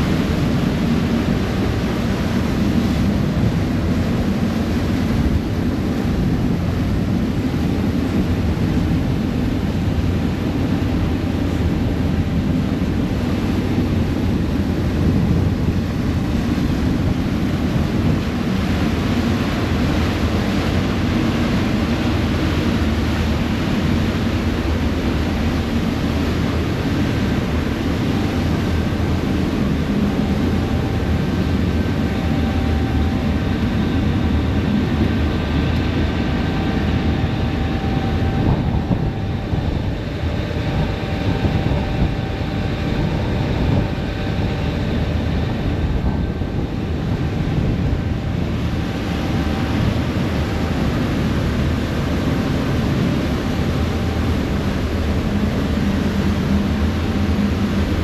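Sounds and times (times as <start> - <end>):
rush of wind and water: 0.0 - 58.0.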